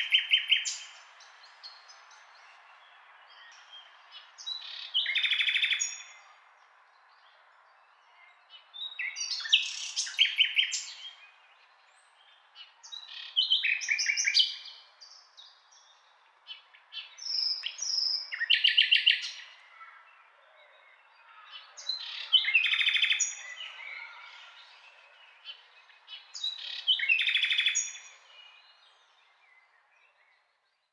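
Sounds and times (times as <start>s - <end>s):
nightingale singing: 0.0s - 6.3s, 8.2s - 19.5s, 21.6s - 30.3s.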